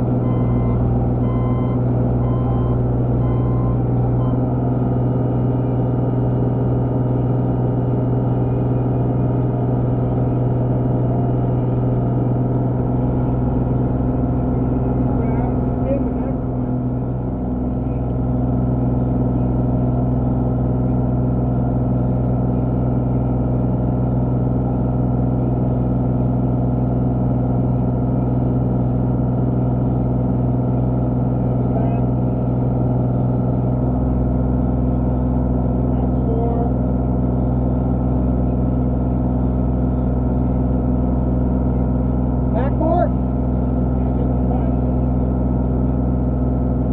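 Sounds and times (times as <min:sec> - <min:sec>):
construction machine engine running: 0:00.0 - 0:46.9.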